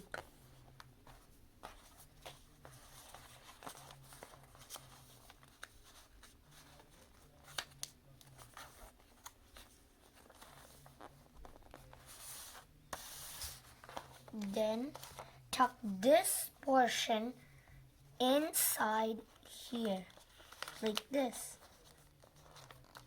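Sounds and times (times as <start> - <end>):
paper rustling being folded: 0.0 - 15.4, 19.1 - 23.0.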